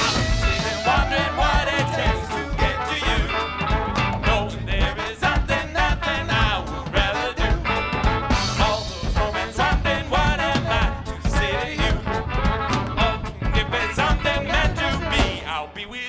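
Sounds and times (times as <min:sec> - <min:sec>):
electric bass: 0:00.0 - 0:15.5
horn section: 0:00.0 - 0:15.6
drums: 0:00.0 - 0:15.9.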